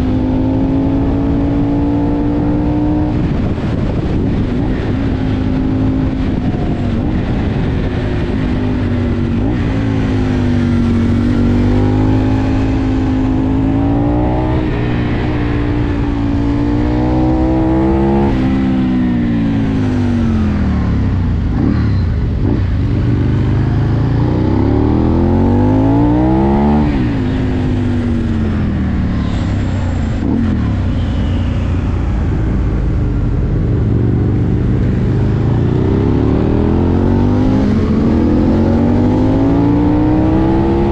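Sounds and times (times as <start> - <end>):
motorcycle engine accelerating: 0.0 - 40.9
wind rushing over microphone: 0.0 - 40.9.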